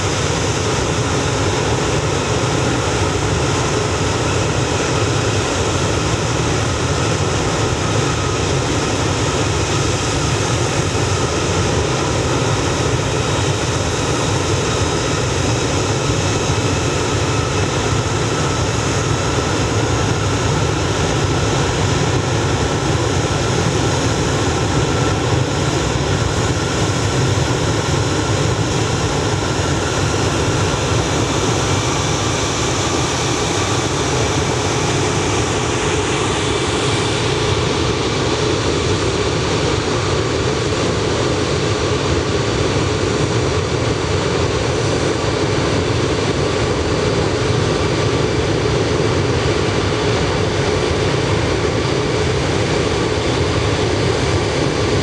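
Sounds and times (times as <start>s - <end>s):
jet engines rushing: 0.0s - 55.0s.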